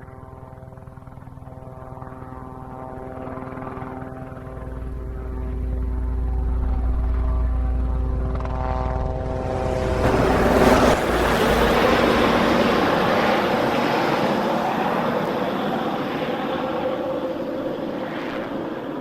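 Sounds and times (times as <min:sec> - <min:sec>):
helicopter passing overhead: 0:00.0 - 0:19.0.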